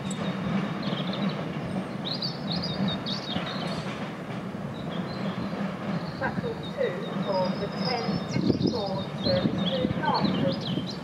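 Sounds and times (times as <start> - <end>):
electric train low drone: 0.0 - 11.0
small birds chirping: 0.0 - 11.0.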